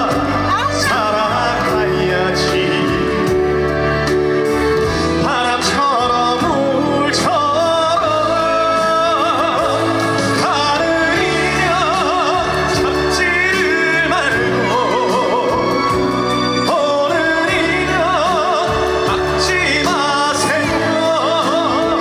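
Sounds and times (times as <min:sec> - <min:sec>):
melody with heavy vibrato: 0:00.0 - 0:22.0.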